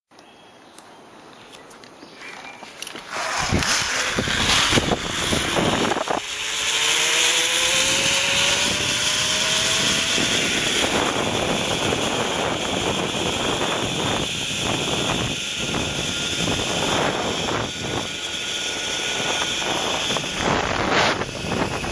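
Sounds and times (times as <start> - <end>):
zipline pulleys whining on cable: 2.8 - 21.9
wind rushing over microphone: 3.0 - 21.9.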